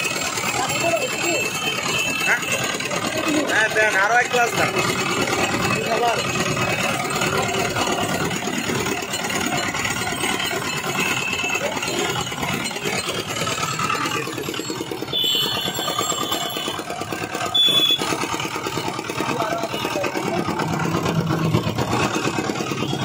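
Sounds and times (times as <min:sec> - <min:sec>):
roller press running: 0:00.0 - 0:23.0.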